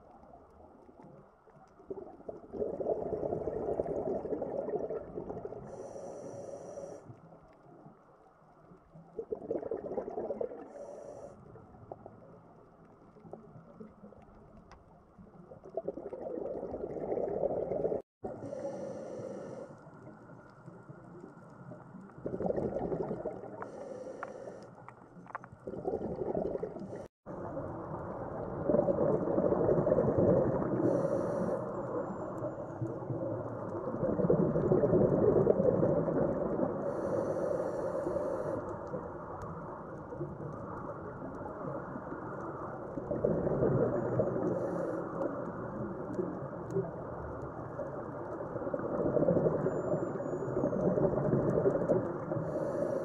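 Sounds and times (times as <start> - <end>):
exhaled bubbles rumbling underwater: 0.0 - 6.3, 7.1 - 23.9, 24.8 - 53.0.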